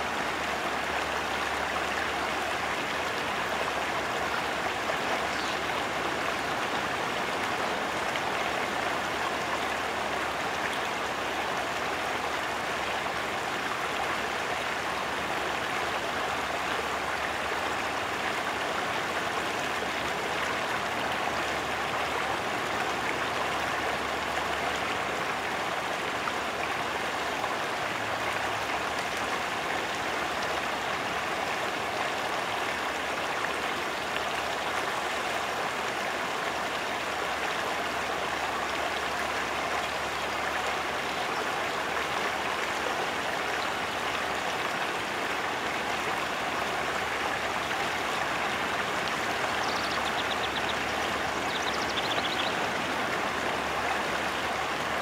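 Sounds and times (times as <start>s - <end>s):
stream water flowing over rocks: 0.0s - 55.0s.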